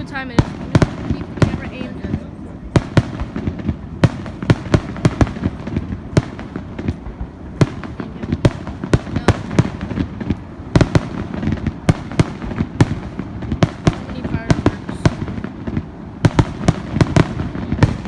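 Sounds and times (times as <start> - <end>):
continuous low rumble: 0.0 - 18.0
fireworks bangs: 0.0 - 18.0.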